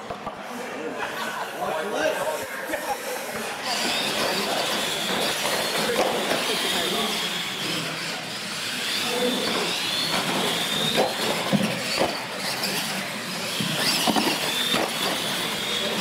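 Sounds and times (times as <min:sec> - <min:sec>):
tyres rushing on concrete: 0:02.0 - 0:16.0
toy truck motor whine: 0:03.0 - 0:16.0.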